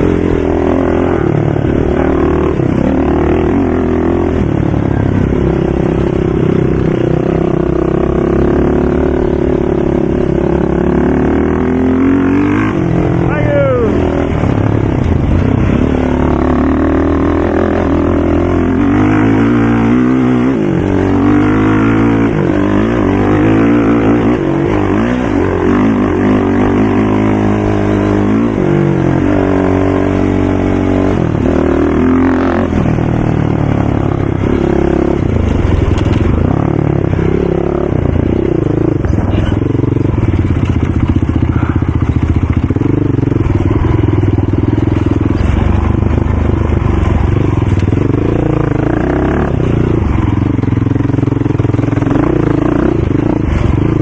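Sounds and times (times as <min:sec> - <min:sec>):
atv engines revving: 0:00.0 - 0:54.0.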